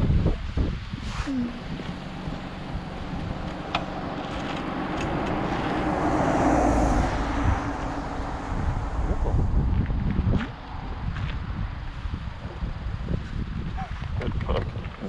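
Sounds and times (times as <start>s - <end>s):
wind rushing over microphone: 0.0s - 15.0s
motorcycle engine running: 1.4s - 14.6s.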